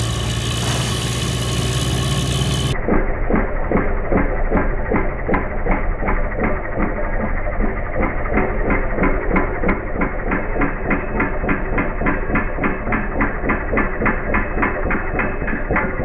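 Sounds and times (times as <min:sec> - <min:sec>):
drilling rig knocking: 0:00.0 - 0:16.0
engine and air compressor running: 0:00.0 - 0:16.0.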